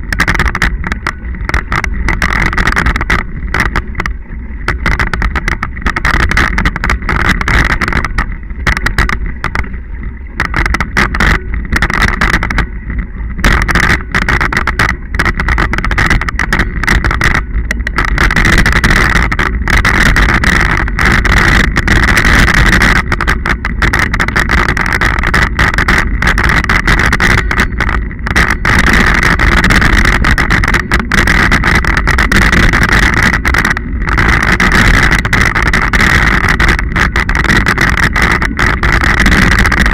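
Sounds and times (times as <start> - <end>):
bike rattling knocks: 0.0 - 39.9
wind and tyre noise: 0.0 - 39.9.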